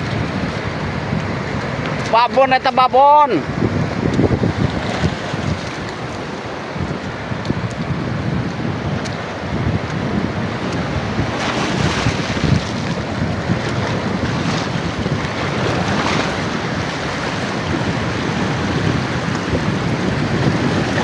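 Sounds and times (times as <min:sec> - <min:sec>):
sea waves: 0:00.0 - 0:21.0
wind buffeting microphone: 0:00.0 - 0:21.0.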